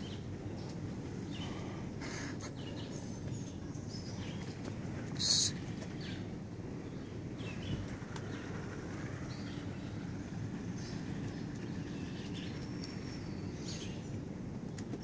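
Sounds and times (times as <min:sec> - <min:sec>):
low outdoor noise: 0:00.0 - 0:15.0
small birds chirping: 0:00.0 - 0:15.0.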